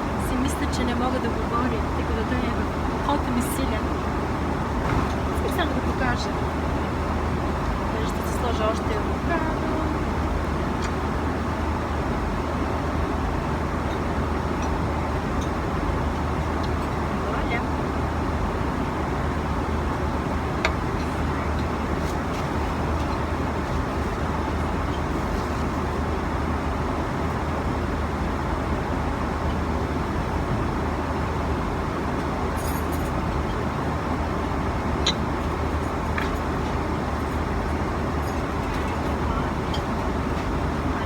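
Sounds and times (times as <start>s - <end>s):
airliner cabin roar: 0.0s - 41.0s.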